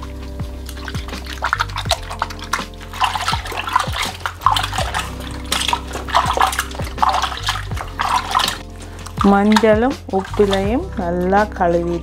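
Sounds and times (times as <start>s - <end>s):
water splashing in a bowl: 0.0s - 10.9s
background music: 0.0s - 12.0s.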